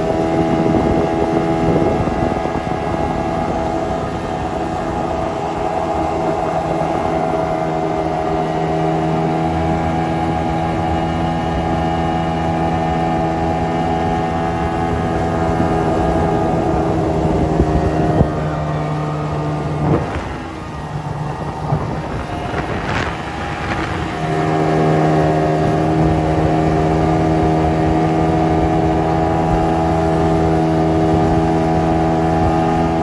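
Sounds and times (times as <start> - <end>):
boat engine humming: 0.0 - 33.0
water wash: 0.0 - 33.0.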